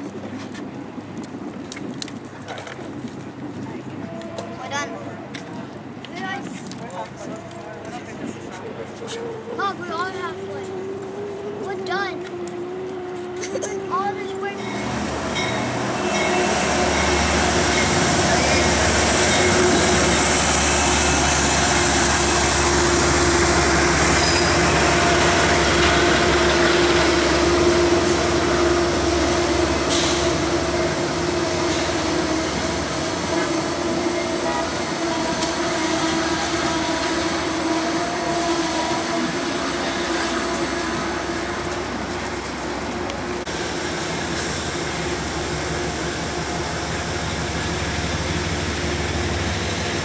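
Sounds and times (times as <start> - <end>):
diesel train passing: 0.0 - 50.0.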